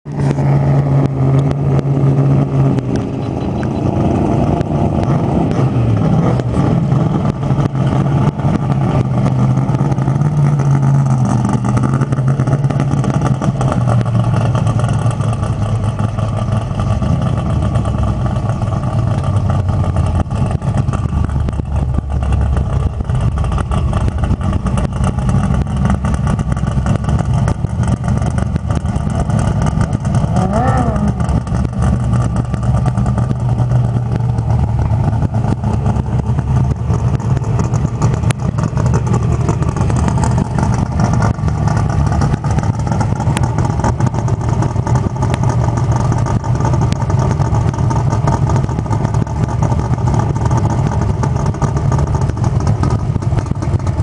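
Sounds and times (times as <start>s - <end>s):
engine idling loudly: 0.0s - 54.0s.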